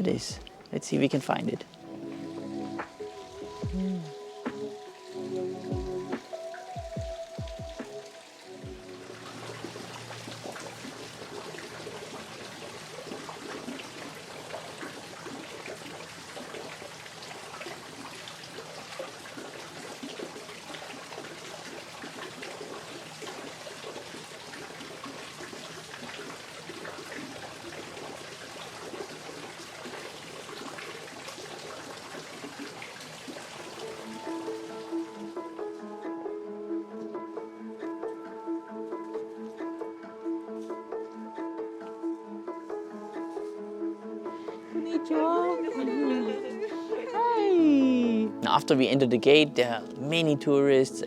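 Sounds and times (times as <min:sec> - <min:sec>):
water trickling: 0:00.0 - 0:51.0.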